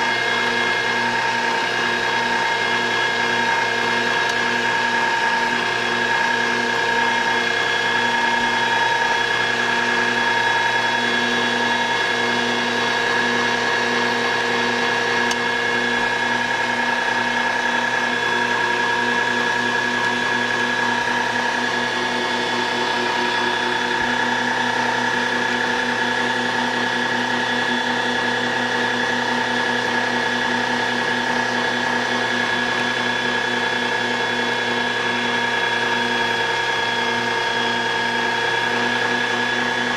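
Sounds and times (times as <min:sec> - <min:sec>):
electric meat grinder humming: 0:00.0 - 0:39.9.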